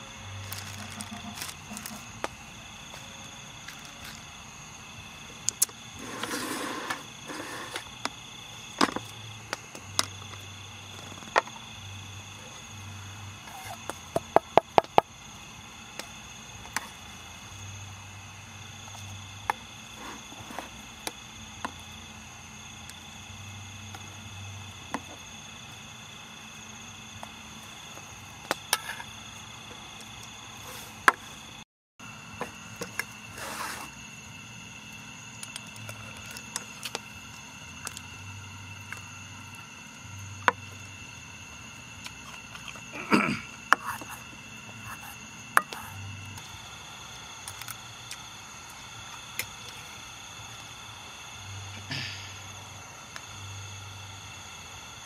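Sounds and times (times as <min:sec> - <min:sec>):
high-pitched insect trilling: 0:00.0 - 0:55.0.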